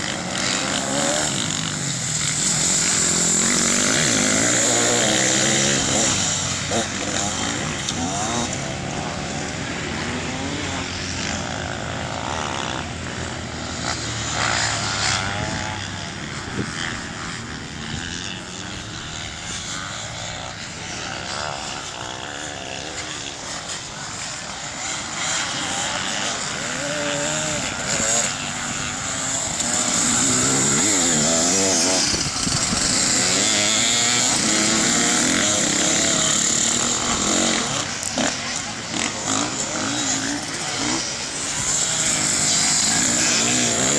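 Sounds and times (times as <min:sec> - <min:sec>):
off-road engines racing: 0:00.0 - 0:43.9.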